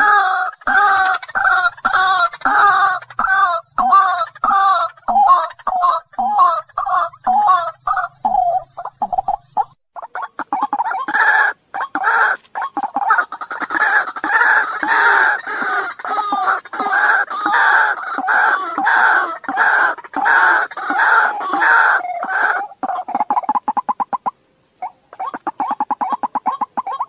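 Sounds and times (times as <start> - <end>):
waterhen calling: 0.0 - 27.0.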